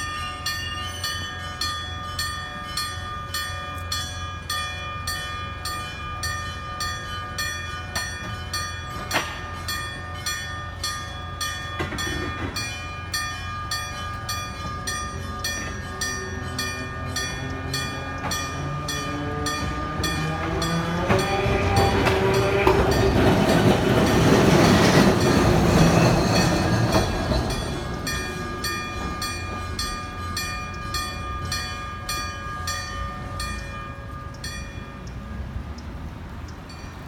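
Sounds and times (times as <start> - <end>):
railway crossing bell ringing: 0.0 - 37.0
tram motors whining: 0.0 - 37.0.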